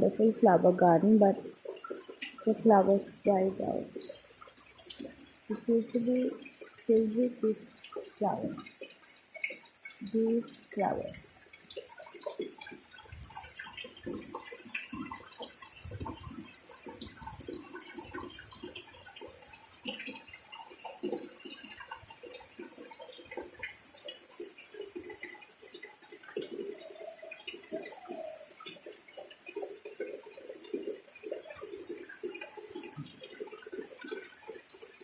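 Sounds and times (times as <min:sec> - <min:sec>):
rain drops splashing: 0:00.0 - 0:35.0.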